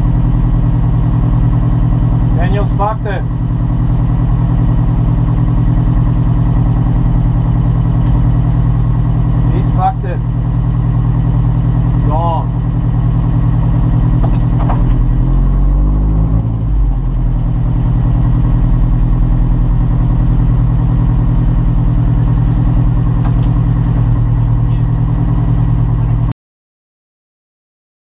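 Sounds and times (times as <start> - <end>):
car engine idling: 0.0 - 26.3.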